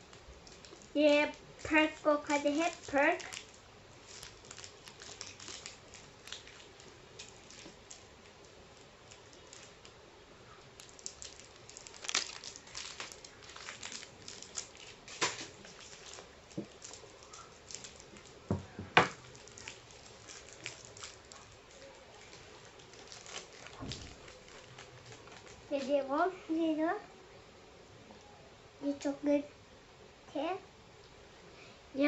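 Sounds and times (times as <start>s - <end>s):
plastic wrapper crinkling: 0.0s - 26.1s.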